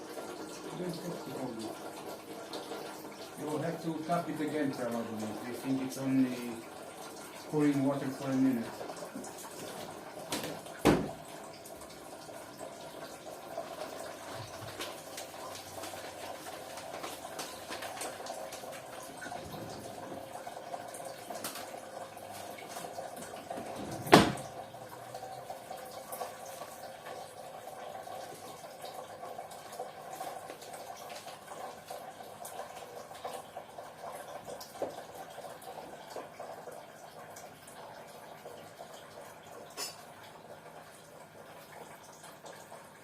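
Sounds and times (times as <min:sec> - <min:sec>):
coffee machine pouring water: 0:00.0 - 0:43.0.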